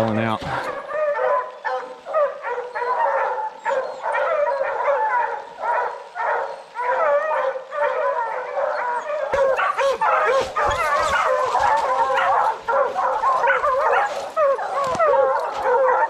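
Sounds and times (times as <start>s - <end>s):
hounds baying and barking: 0.0s - 16.0s.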